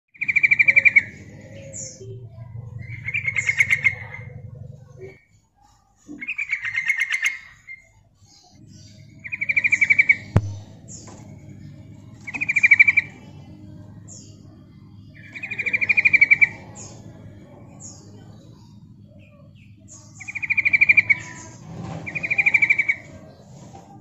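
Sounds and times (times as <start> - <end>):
bird rapid chattering calls: 0.2 - 23.6.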